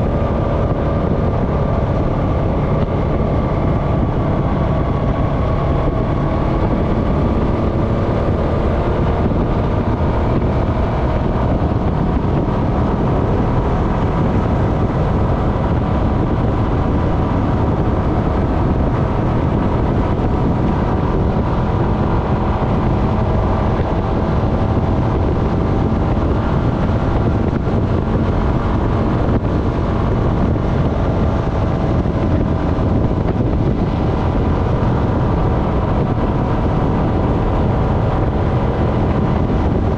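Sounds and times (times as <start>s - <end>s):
atv engine running: 0.0s - 39.9s
wind noise on microphone: 0.0s - 39.9s.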